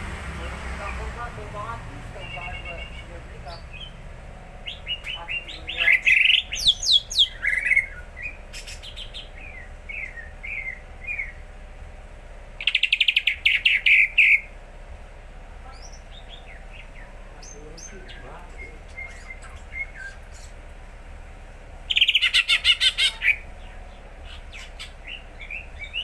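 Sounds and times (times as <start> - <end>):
bird singing: 0.0 - 11.6, 12.6 - 14.6, 15.6 - 21.2, 21.8 - 26.0.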